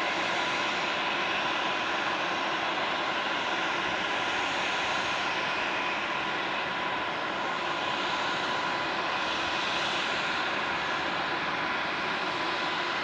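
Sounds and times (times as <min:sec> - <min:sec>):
propeller and engine rush: 0:00.0 - 0:13.0
turboprop engines whining: 0:00.0 - 0:13.0.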